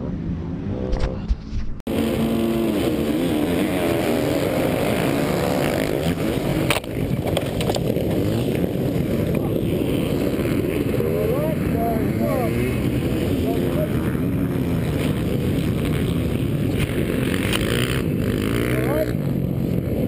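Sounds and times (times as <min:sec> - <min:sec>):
dirt bike engine revving: 0:01.9 - 0:20.0.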